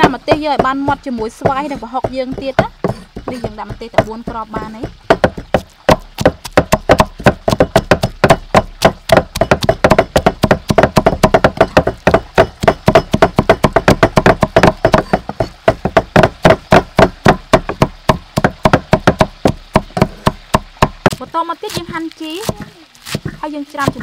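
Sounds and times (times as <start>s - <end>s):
cleaver chopping on wooden block: 0.0s - 24.0s.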